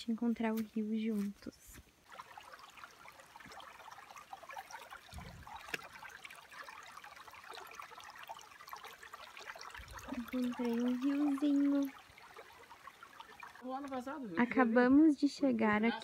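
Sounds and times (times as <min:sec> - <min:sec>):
stream trickling over stones: 0:00.0 - 0:16.0.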